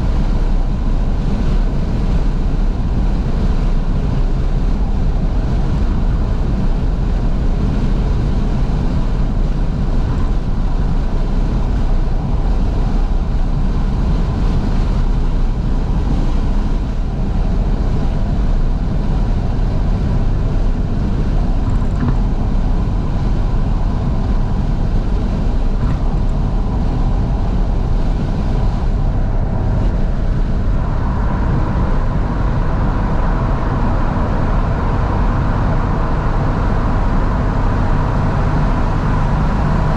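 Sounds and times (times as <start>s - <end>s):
road engine and wind noise: 0.0s - 39.9s.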